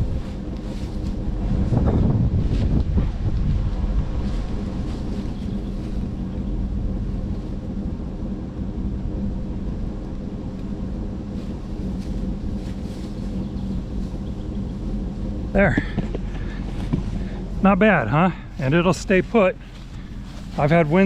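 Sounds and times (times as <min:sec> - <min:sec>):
low mechanical engine rumble: 0:00.0 - 0:21.0
wind noise on microphone: 0:00.0 - 0:21.0.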